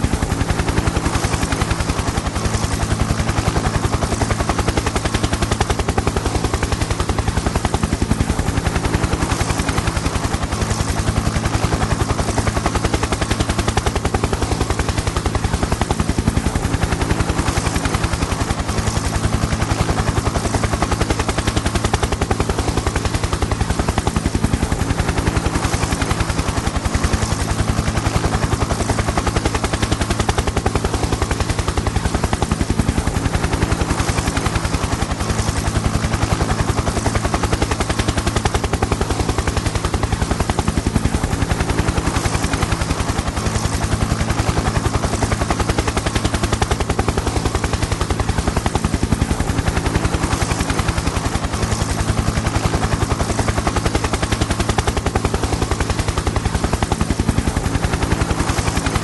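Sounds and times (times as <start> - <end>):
helicopter rotor chop: 0.0 - 59.0.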